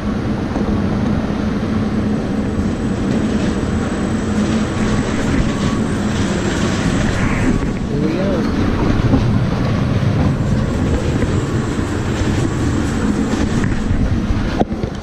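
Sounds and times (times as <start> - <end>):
truck and conveyor droning: 0.0 - 14.9.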